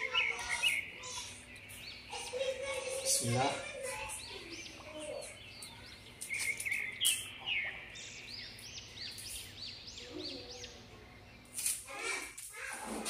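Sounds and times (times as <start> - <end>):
high bird chirps: 0.0 - 12.2.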